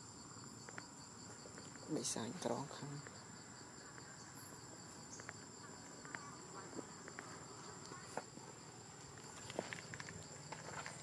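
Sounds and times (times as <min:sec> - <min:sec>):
insects chirping and buzzing: 0:00.0 - 0:11.0.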